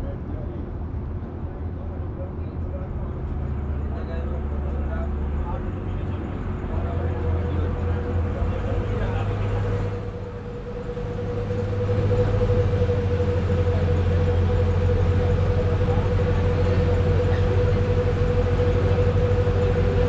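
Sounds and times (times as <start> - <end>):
engine humming with whine: 0.0 - 20.0.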